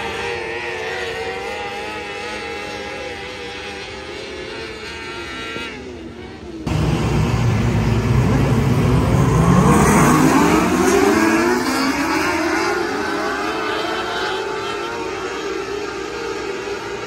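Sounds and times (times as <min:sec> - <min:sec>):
distant race car engines: 0:00.0 - 0:17.0
sprint car engines racing: 0:00.0 - 0:17.0.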